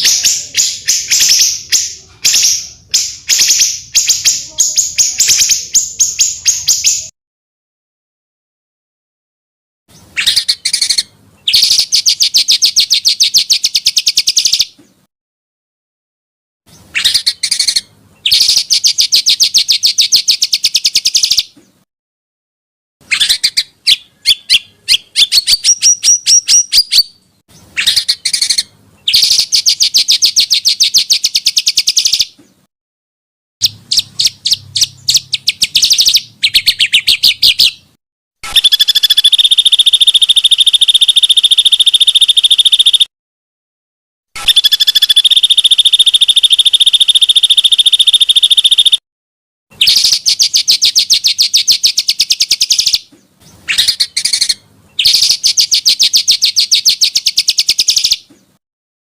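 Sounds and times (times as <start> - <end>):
songbird trilling song: 0.0 - 7.1, 9.9 - 15.0, 16.7 - 21.8, 23.0 - 32.7, 33.6 - 43.1, 44.4 - 49.0, 49.7 - 58.6.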